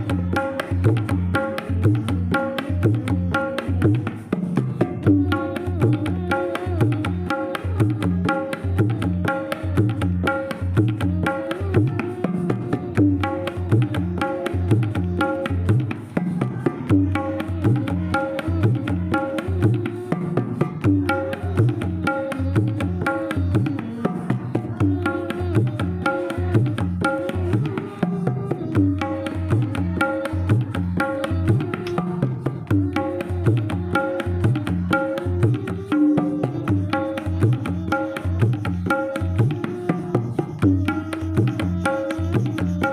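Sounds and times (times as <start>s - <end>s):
instrumental music with drum rhythm: 0.0s - 42.9s.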